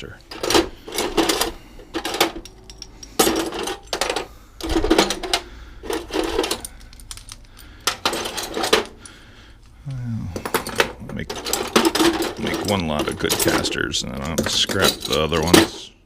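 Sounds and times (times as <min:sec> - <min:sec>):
metal casters clinking and rattling: 0:00.0 - 0:09.8, 0:10.4 - 0:16.0.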